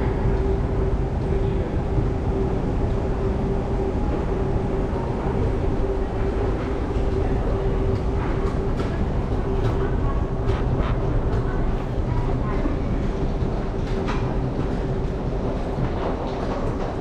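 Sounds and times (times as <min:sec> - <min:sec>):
mid-pitched hum: 0:00.0 - 0:15.9
steady low rumble: 0:00.0 - 0:17.0.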